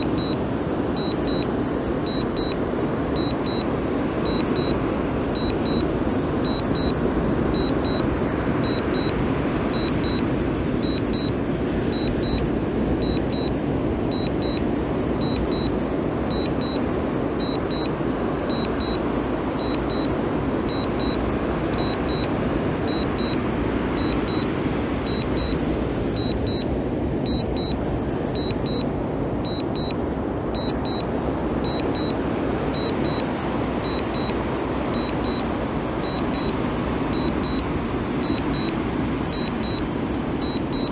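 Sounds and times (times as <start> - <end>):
remote controller beeping: 0.0 - 2.6, 3.2 - 14.6, 15.2 - 15.7, 16.3 - 16.8, 17.4 - 20.1, 20.7 - 23.4, 24.0 - 30.0, 30.6 - 40.9.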